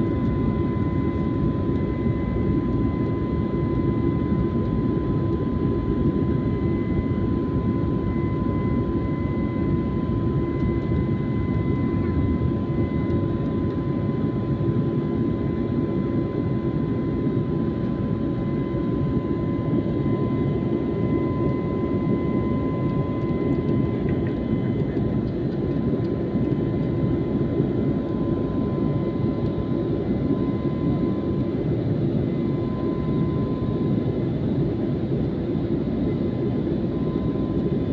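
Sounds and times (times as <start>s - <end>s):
jet engines droning: 0.0s - 37.9s.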